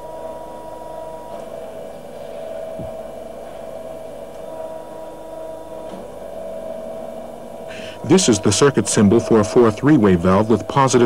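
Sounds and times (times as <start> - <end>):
hydraulic rig humming: 0.0 - 11.0.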